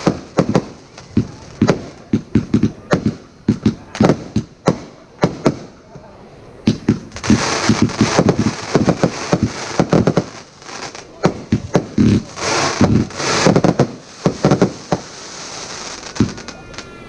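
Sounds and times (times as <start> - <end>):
firework bangs: 0.0 - 5.8, 6.6 - 17.0
hissing crackling fireworks: 0.0 - 17.0.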